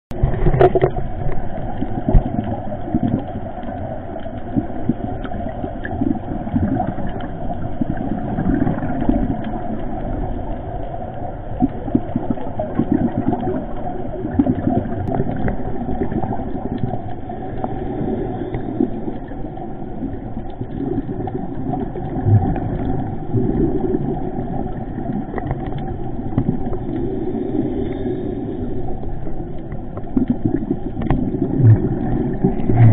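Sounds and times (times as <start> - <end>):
muffled underwater rumble: 0.1 - 32.9
faint clicks: 0.4 - 8.0, 8.6 - 27.1, 28.6 - 32.9.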